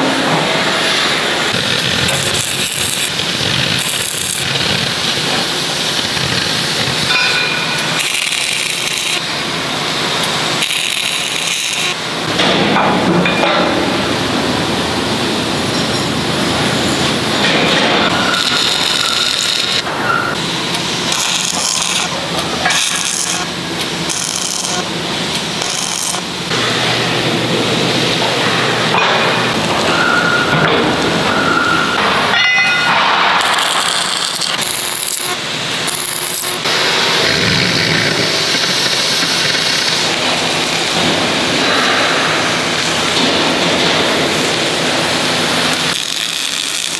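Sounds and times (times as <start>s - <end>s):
welding arc crackling: 0.9s - 12.5s, 13.8s - 30.0s, 32.0s - 46.9s.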